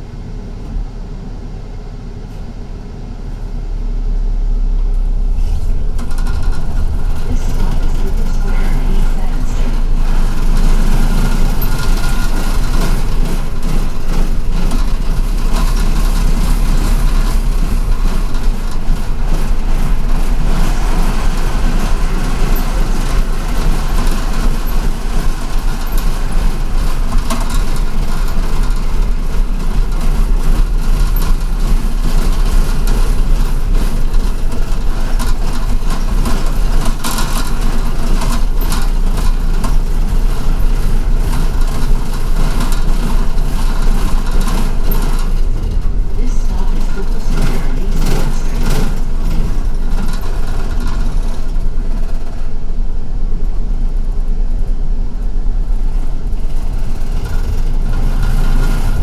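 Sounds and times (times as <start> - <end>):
bus engine rumble: 0.0 - 59.0
road and cabin noise: 0.0 - 59.0
faint rattles: 3.2 - 52.9, 55.0 - 59.0.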